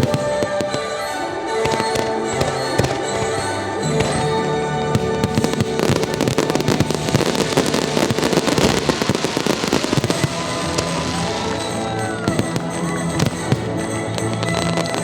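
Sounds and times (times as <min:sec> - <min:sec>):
fireworks crackling and popping: 0:00.0 - 0:15.0
music soundtrack: 0:00.0 - 0:15.0.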